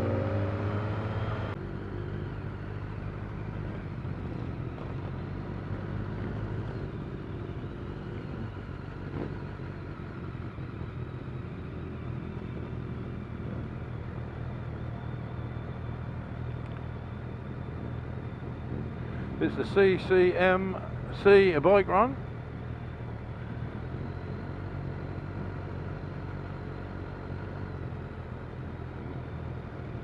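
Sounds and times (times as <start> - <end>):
road and wind noise: 0.0 - 30.0
motorcycle engine running: 0.9 - 30.0.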